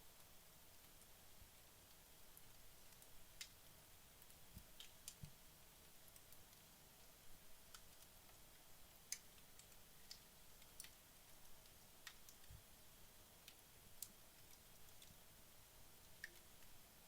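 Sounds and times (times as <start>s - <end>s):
faint fire crackles: 0.0s - 17.0s.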